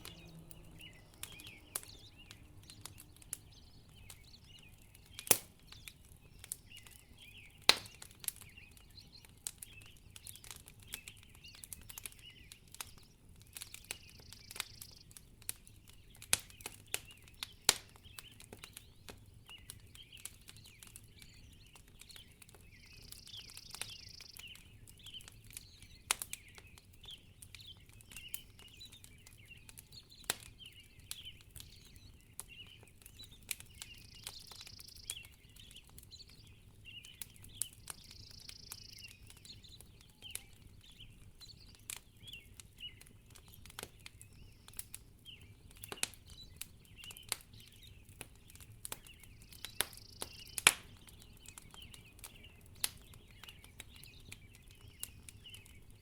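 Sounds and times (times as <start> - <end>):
sharp pops of fire: 0.0 - 55.8
wood fire crackling: 0.0 - 56.0.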